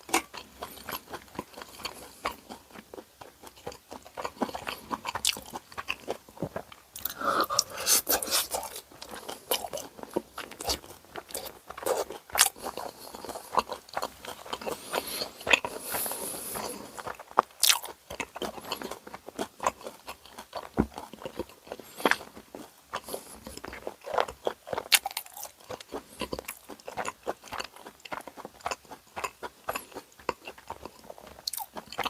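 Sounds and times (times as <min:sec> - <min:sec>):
person crunching and chewing: 0:00.0 - 0:32.0.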